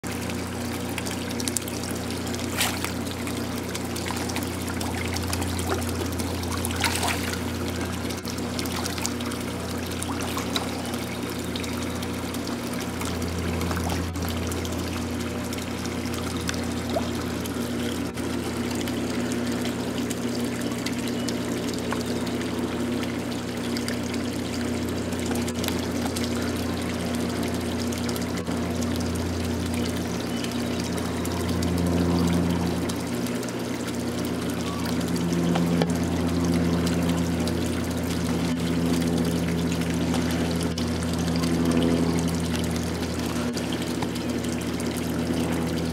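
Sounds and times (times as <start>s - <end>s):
steady low hum: 0.0s - 45.9s
water pouring into pond: 0.0s - 45.9s.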